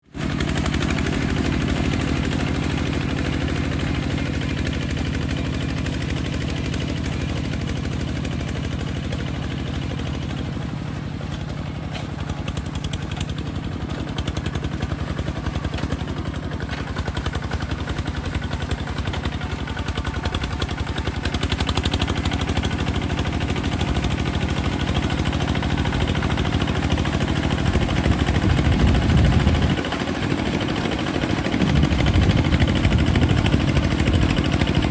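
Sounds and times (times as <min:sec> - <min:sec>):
bulldozer engine running: 0:00.0 - 0:34.9.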